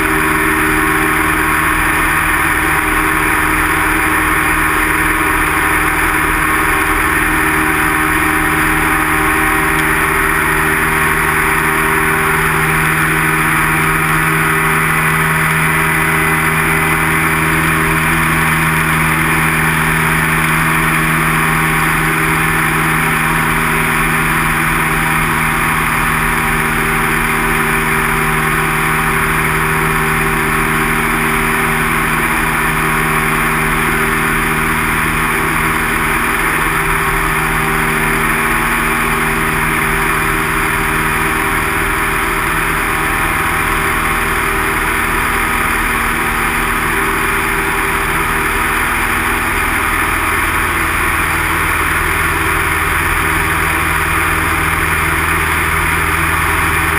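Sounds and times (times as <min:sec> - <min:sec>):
light aircraft engine and propeller: 0:00.0 - 0:56.9.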